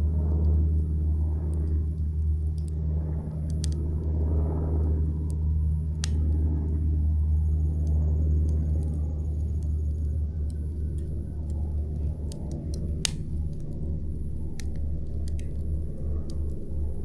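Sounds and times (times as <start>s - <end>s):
campfire crackling: 0.0s - 17.0s
steady low rumble: 0.0s - 17.0s.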